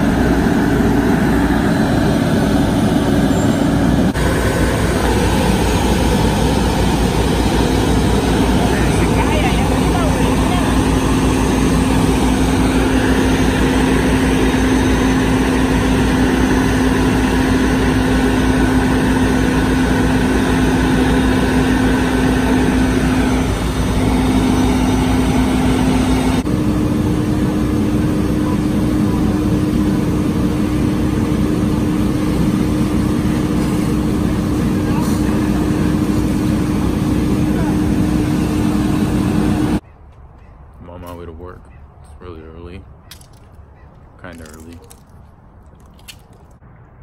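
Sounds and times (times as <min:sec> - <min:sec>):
fire truck engine droning: 0:00.0 - 0:47.0.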